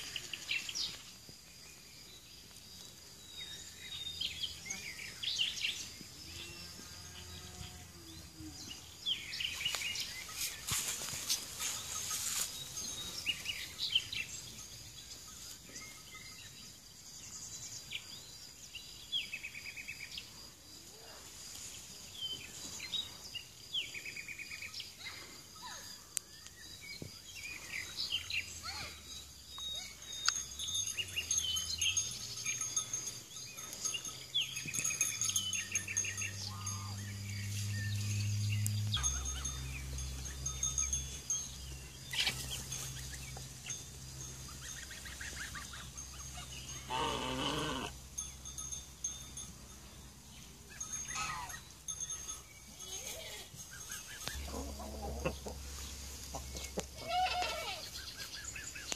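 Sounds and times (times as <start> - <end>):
birds chirping: 0.0 - 20.5, 21.7 - 58.9
insect drone: 0.0 - 58.9.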